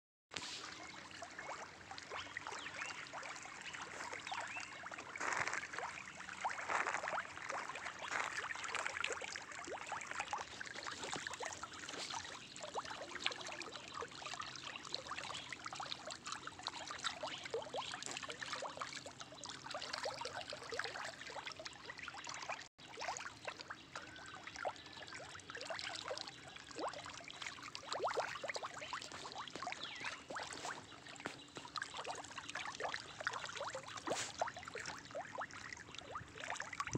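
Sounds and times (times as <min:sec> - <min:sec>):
water splashing and trickling: 0:00.3 - 0:36.9.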